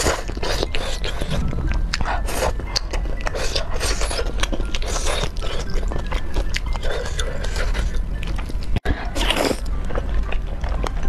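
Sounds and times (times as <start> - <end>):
chewing noodles: 0.0 - 11.0.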